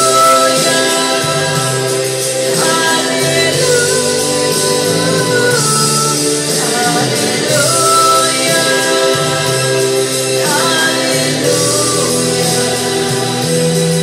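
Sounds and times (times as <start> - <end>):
recorded backing music: 0.0 - 14.0
woman singing into microphone: 0.0 - 14.0.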